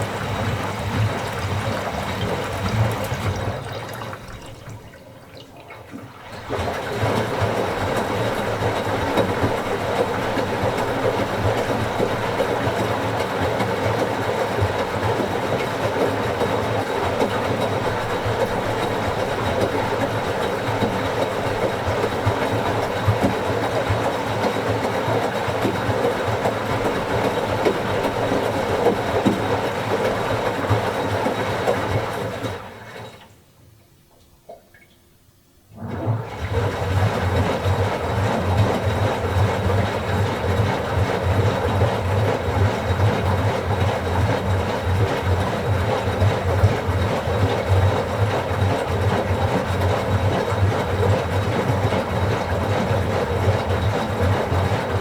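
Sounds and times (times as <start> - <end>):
washing machine drum churning: 0.0 - 33.3, 35.7 - 55.0.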